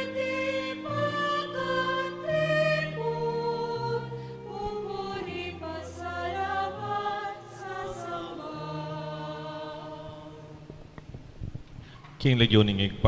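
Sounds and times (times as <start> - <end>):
slow hymn singing: 0.0 - 11.4.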